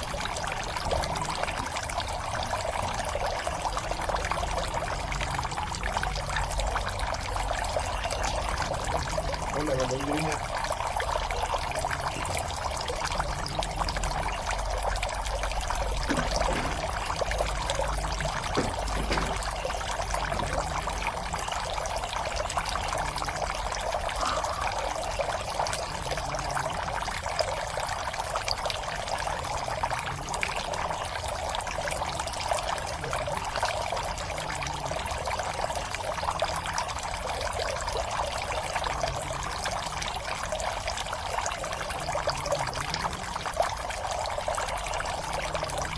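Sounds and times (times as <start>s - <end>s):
water pouring into pond: 0.0s - 45.9s.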